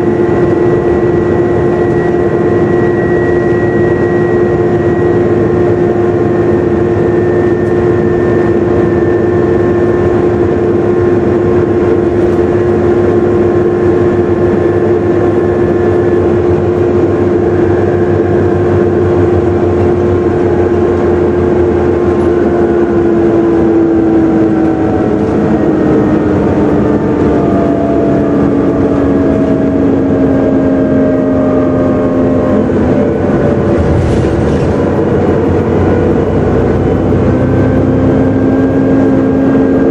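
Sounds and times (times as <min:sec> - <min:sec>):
bus drivetrain whine: 0:00.0 - 0:39.9.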